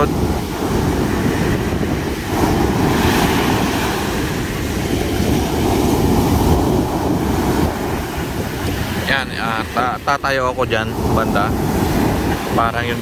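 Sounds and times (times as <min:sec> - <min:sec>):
waves breaking heavily: 0:00.0 - 0:13.0
wind buffeting microphone: 0:00.0 - 0:13.0.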